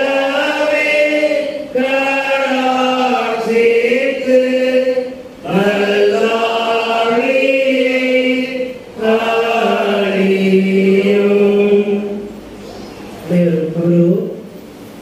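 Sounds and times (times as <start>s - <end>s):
person singing unaccompanied chant: 0.0s - 12.4s.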